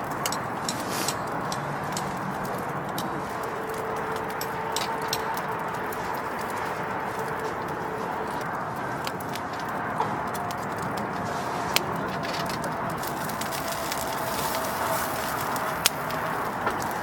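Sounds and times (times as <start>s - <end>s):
fire pops and snaps: 0.0s - 17.0s.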